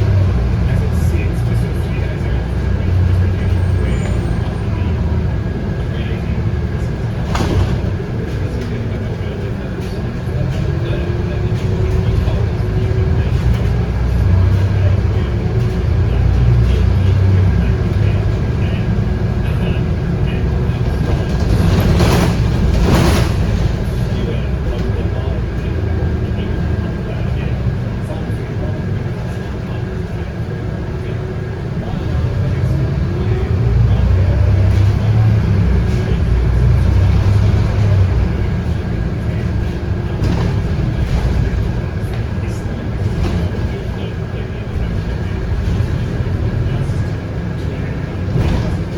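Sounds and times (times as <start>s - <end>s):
bus diesel engine droning: 0.0s - 48.9s.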